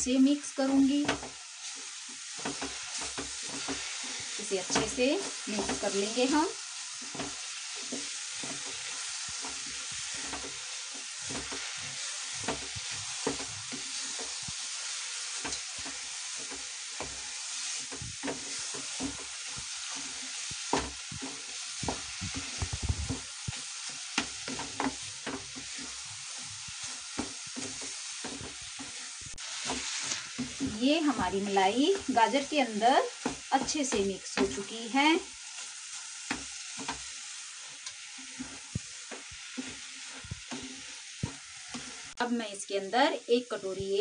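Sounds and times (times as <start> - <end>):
food sizzling in a frying pan: 0.0 - 44.0
spatula scraping and knocking pan: 0.7 - 42.2.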